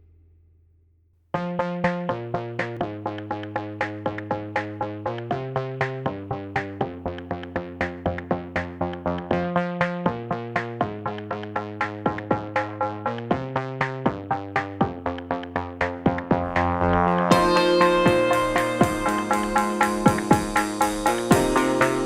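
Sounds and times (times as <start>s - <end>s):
plucked synthesizer notes: 1.4s - 22.0s
synthesizer chords: 1.4s - 22.0s.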